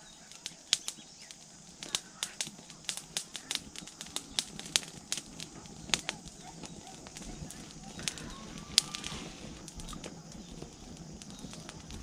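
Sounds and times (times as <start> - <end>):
corn cobs popping: 0.0 - 12.0
fire crackling: 0.0 - 12.0.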